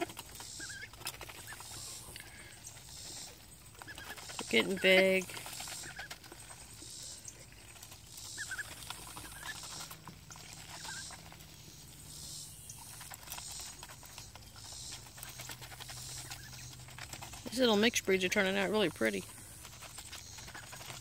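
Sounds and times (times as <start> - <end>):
duck bills pecking in metal bowl: 0.0 - 21.0.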